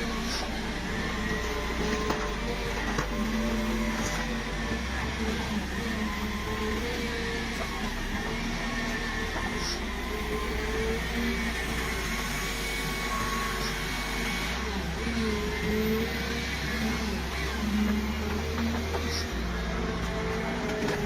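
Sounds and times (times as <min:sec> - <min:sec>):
heavy machinery running: 0:00.0 - 0:21.0.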